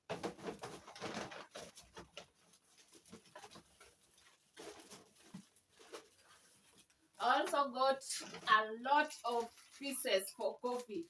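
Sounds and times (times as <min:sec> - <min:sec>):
grocery packaging rustling: 0:00.0 - 0:11.0.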